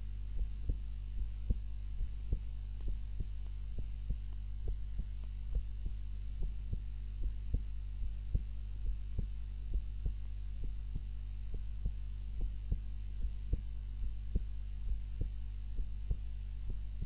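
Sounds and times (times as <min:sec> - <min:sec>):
heart beating: 0:00.0 - 0:17.0
low hum: 0:00.0 - 0:17.0.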